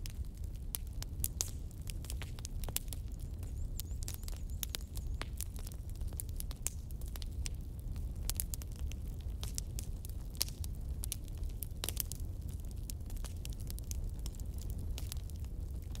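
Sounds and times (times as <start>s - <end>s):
bonfire crackling and popping: 0.0s - 16.0s
low rumble of flames: 0.0s - 16.0s.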